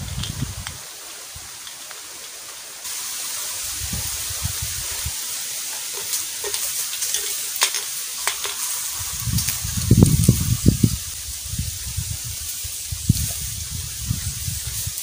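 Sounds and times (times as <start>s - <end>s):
steady hiss: 0.0s - 15.0s
footsteps crunching on dry leaves: 2.9s - 15.0s.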